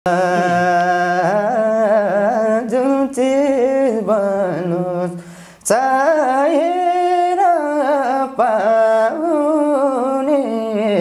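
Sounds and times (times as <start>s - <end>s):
person singing wordless melody: 0.1s - 11.0s.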